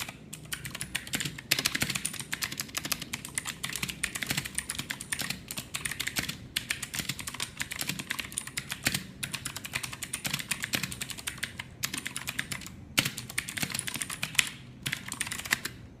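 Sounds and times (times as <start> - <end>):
mechanical keyboard clicky typing: 0.0 - 15.8.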